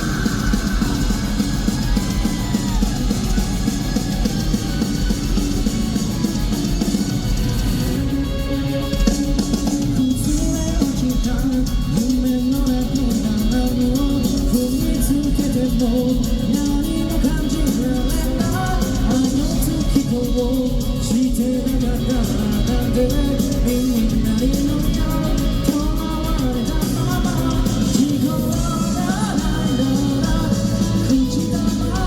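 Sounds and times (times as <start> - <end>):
person singing: 0.0 - 7.0, 8.9 - 32.0
live rock band playing: 0.0 - 32.0.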